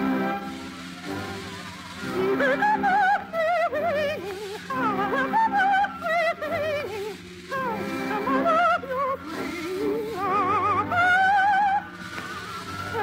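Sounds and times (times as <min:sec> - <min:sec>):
musical accompaniment: 0:00.0 - 0:13.0
soprano singing with vibrato: 0:00.0 - 0:13.0.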